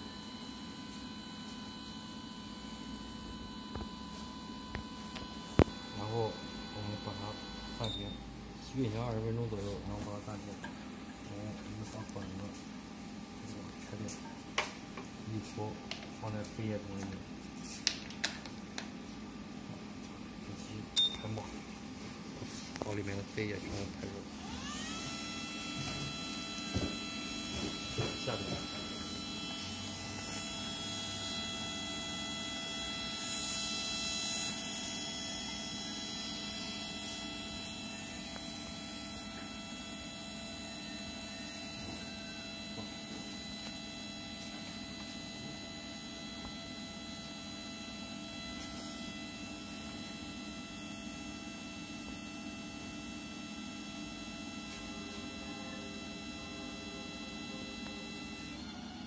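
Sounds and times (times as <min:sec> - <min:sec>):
printer electric hum: 0:00.0 - 0:59.0.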